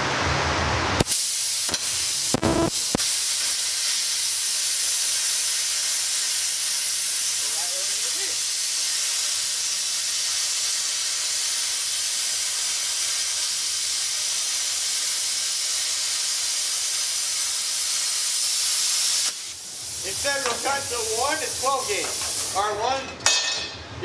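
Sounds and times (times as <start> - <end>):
plasma cutter hissing: 1.0 - 22.9.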